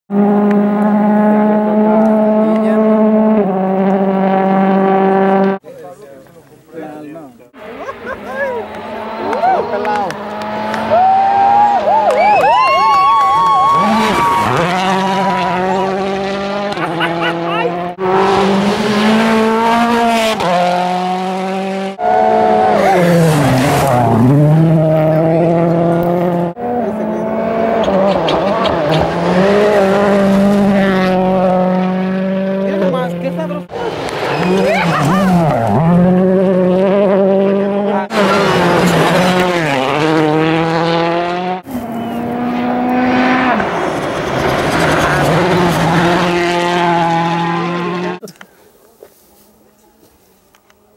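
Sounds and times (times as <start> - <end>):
rally car engines revving: 0.1 - 5.6, 7.5 - 12.1, 13.4 - 48.5.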